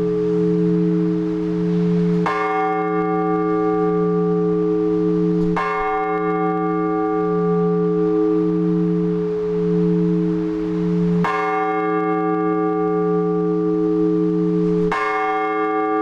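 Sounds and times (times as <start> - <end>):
church bell strokes: 0.0 - 16.0
deep bell humming: 0.0 - 16.0.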